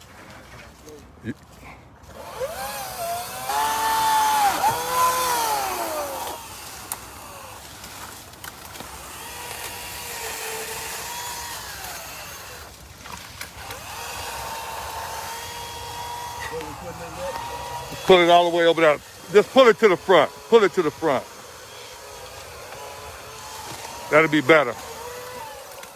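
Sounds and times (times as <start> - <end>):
chainsaw engine revving: 2.1 - 25.9.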